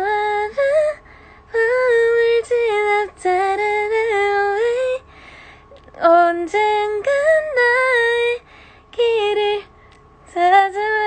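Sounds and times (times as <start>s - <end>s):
young woman singing unaccompanied: 0.0s - 5.2s, 5.8s - 11.0s.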